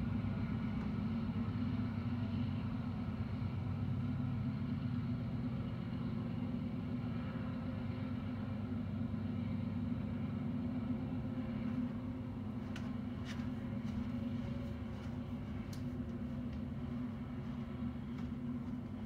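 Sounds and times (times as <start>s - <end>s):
freight train cars rolling past: 0.0s - 19.0s.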